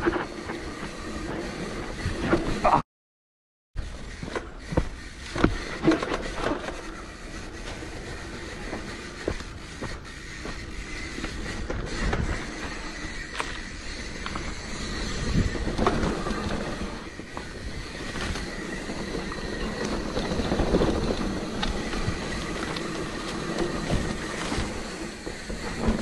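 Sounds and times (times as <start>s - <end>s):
mountain bike rattling on dirt: 0.0s - 2.6s, 3.8s - 26.0s.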